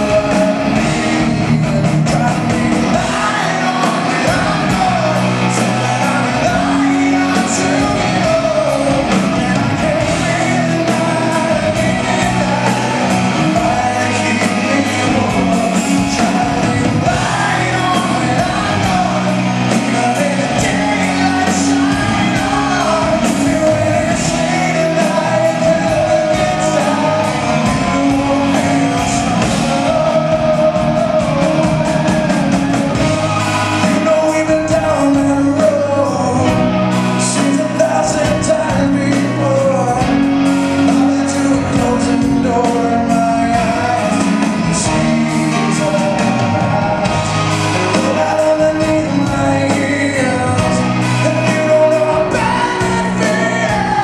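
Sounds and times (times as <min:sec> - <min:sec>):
live rock band playing: 0:00.0 - 0:54.0
man singing lead vocal: 0:00.0 - 0:54.0.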